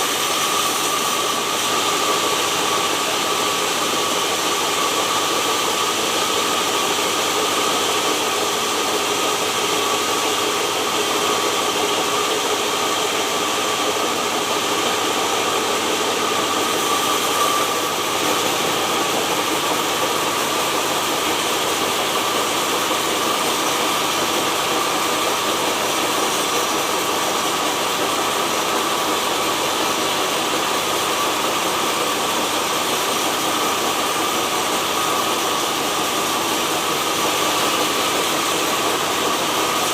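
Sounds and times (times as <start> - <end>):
sawmill saw running with whine: 0.0 - 39.9.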